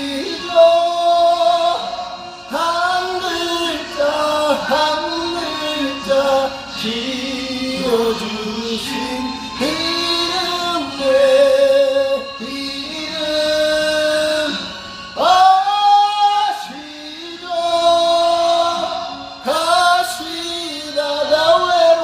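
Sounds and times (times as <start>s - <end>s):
backing music: 0.0s - 22.0s
person singing a slow ballad: 0.0s - 22.0s.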